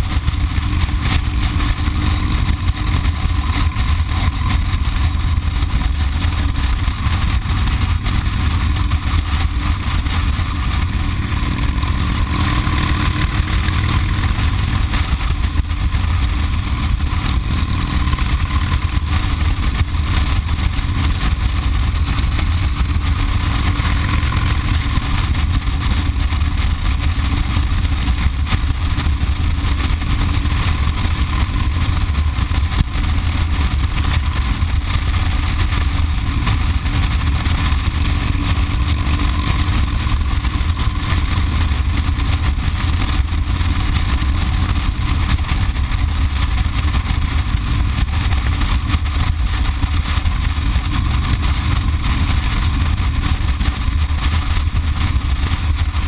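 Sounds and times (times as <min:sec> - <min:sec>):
motorcycle engine rumble: 0:00.0 - 0:56.0.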